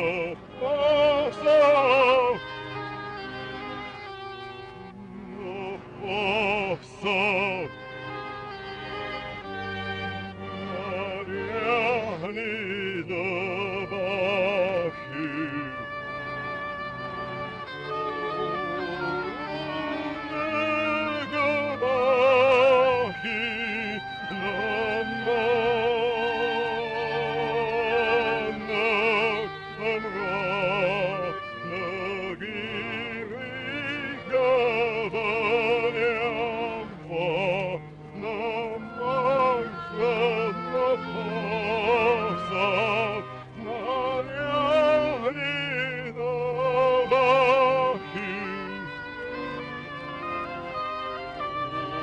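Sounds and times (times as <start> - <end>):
operatic singing: 0.0 - 52.0
sustained low accompaniment: 0.0 - 52.0.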